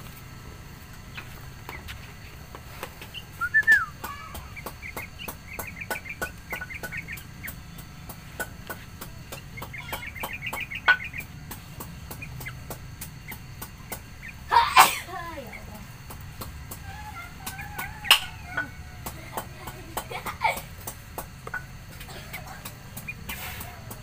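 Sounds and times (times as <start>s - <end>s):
birds calling and chirping: 0.0s - 24.0s.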